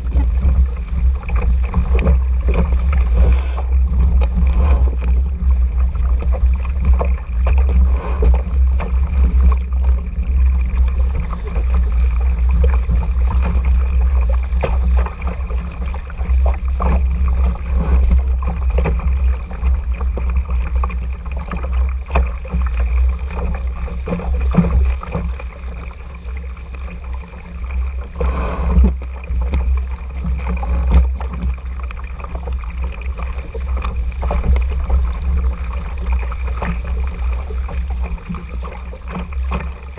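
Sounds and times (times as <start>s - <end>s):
splashes and knocks: 0.0s - 39.9s
water rushing along hull: 0.0s - 39.9s
wind on microphone: 0.0s - 39.9s.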